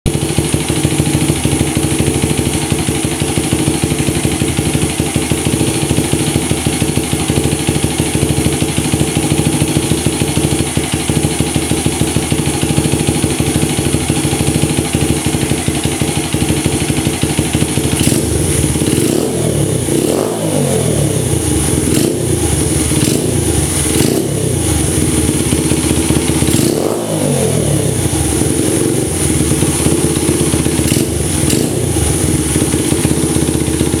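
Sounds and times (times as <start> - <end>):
motorcycle engine idling and revving: 0.0 - 34.0.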